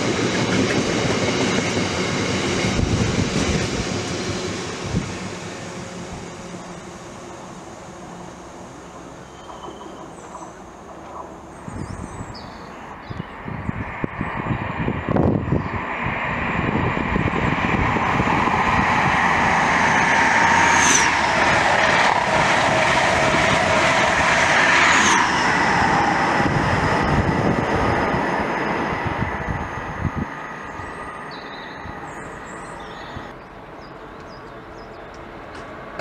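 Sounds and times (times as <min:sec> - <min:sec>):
train passing at speed: 0:00.0 - 0:36.0.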